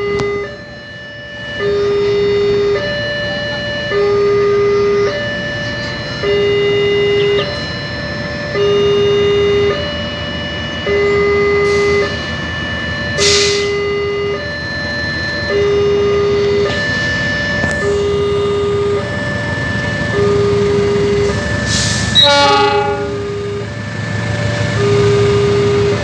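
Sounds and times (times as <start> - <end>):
level crossing alarm two-tone: 0.0 - 26.0
locomotive rumble: 0.0 - 26.0.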